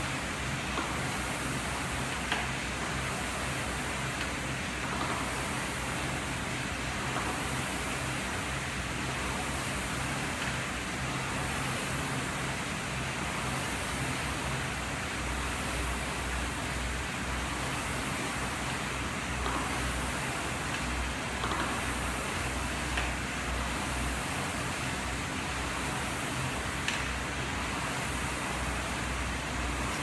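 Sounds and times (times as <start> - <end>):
rowing machine flywheel whooshing: 0.0 - 30.0.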